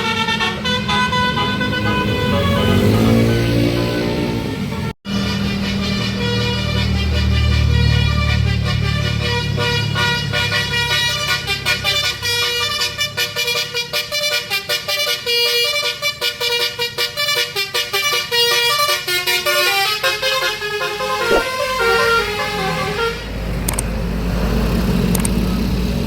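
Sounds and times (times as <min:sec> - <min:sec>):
musical bus horn melody: 0:00.0 - 0:23.5.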